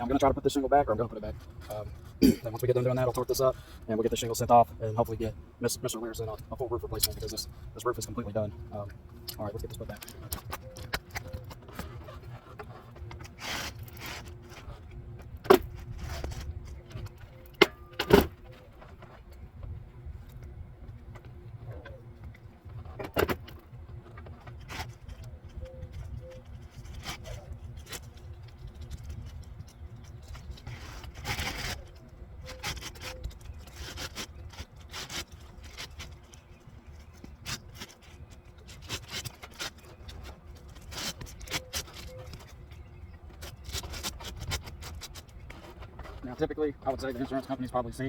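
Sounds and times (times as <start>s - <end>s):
roof shingle rubbing and scraping: 0.0s - 48.0s.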